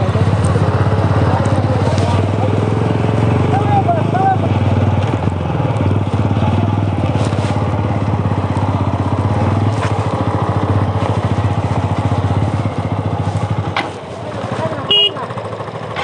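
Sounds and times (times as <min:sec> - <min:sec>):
motorcycle engine chugging: 0:00.0 - 0:16.0.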